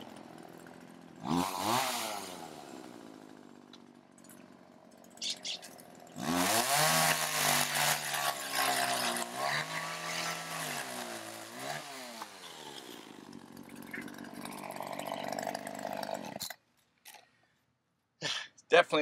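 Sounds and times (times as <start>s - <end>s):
chainsaw cutting wood: 0.0s - 17.3s.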